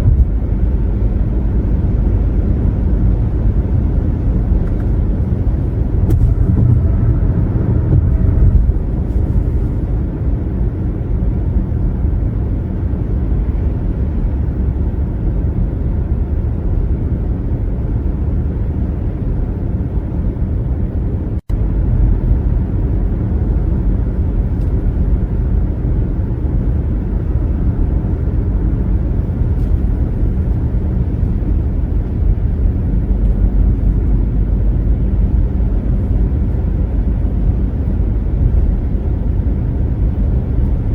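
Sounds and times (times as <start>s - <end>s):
car driving on highway: 0.0s - 40.9s.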